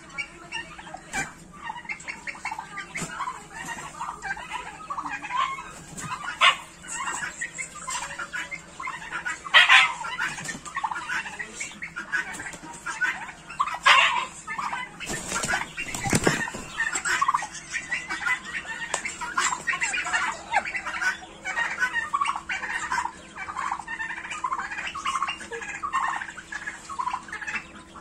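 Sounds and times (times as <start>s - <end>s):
turkeys and chickens calling: 0.0s - 28.0s.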